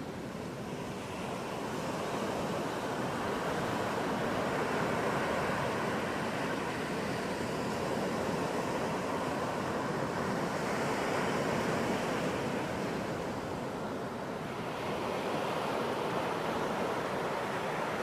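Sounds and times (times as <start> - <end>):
ocean waves on a beach: 0.0 - 18.0.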